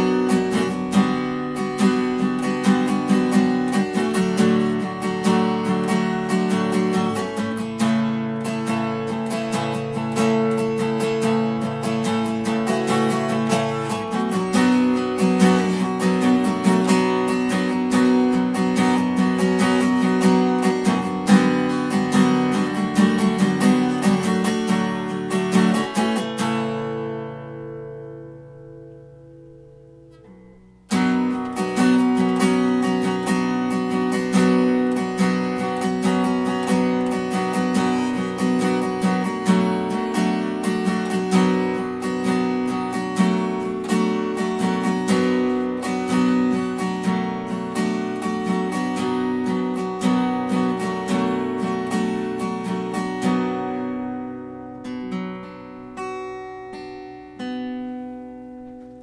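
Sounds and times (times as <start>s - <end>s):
acoustic guitar strummed: 0.0s - 59.0s.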